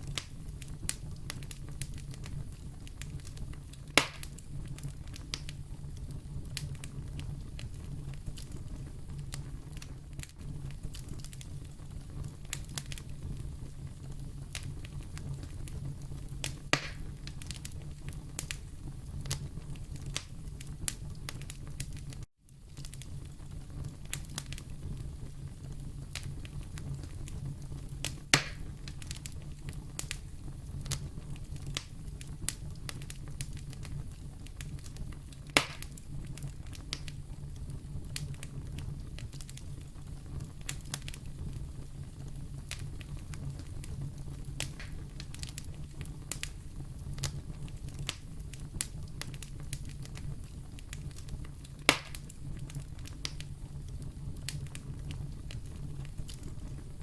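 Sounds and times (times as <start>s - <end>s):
fire low rumble: 0.0s - 57.0s
loud fire pops: 0.0s - 57.0s
wood fire crackling: 0.0s - 57.0s.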